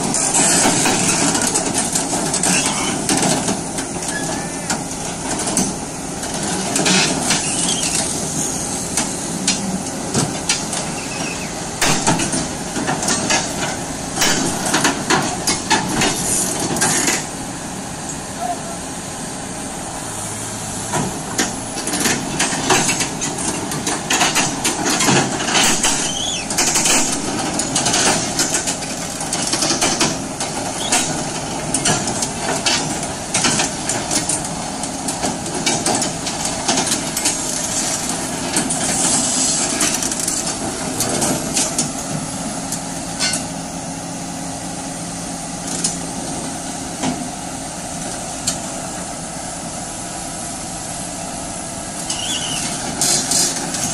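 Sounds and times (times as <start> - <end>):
excavator diesel engine running: 0.0 - 53.9
steel crawler tracks clanking: 0.0 - 53.9.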